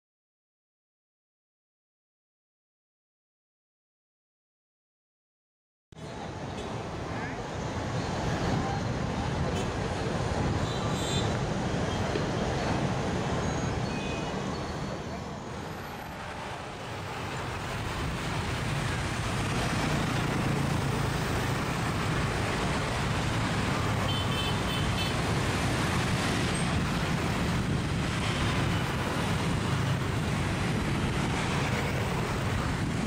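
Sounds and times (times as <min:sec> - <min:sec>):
motorbike traffic passing: 0:06.0 - 0:33.0.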